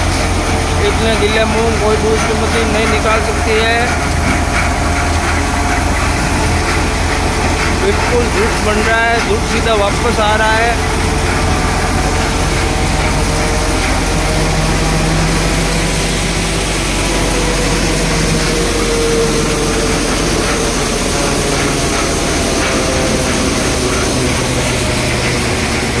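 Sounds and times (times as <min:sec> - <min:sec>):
thresher running: 0:00.0 - 0:26.0.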